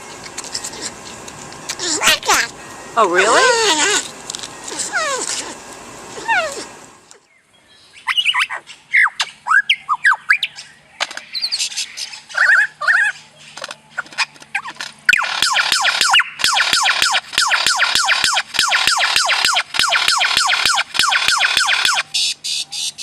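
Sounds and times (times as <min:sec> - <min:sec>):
bird calling: 0:01.7 - 0:23.0.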